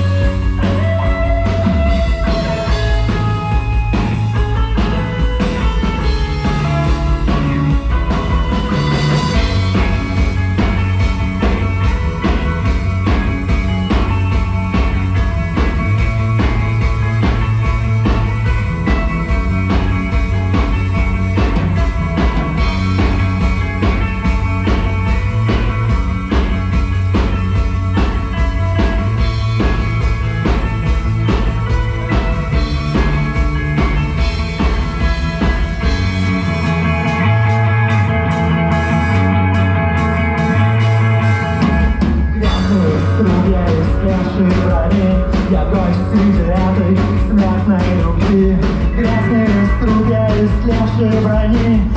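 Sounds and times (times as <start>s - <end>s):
drum beat: 0.0s - 37.2s, 41.6s - 51.9s
guitar chords: 0.0s - 51.9s
heavy bass line: 0.0s - 51.9s
rock band playing instrumental: 0.0s - 51.9s.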